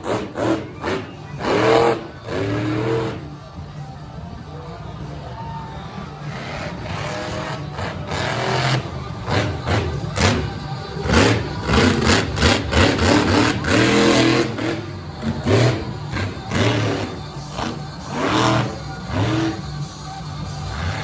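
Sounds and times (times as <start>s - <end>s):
truck engine revving: 0.0s - 4.3s, 6.0s - 21.0s.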